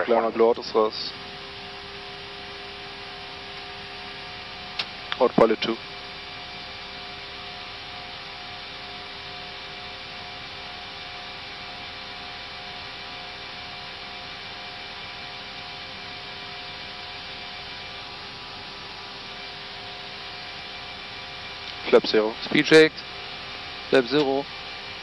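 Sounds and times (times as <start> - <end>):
constant tonal hum: 0.0 - 25.0.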